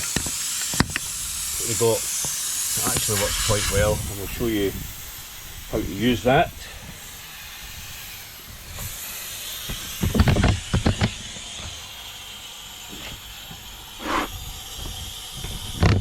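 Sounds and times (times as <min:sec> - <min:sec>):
air hissing from a tyre: 0:00.0 - 0:16.0.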